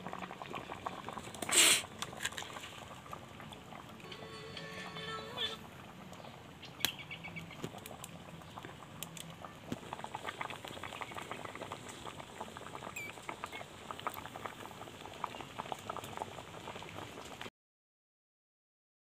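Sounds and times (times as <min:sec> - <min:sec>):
pot bubbling and popping: 0:00.0 - 0:17.5.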